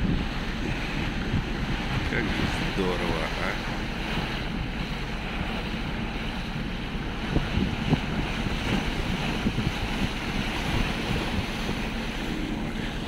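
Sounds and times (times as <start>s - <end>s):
rush of sea water: 0.0s - 13.0s
wind buffeting microphone: 0.0s - 13.0s.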